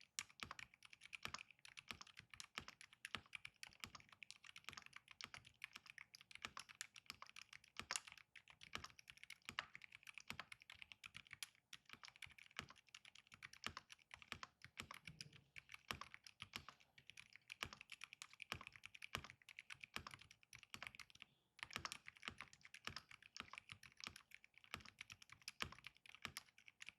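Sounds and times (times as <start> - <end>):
mechanical keyboard typing: 0.1 - 26.9.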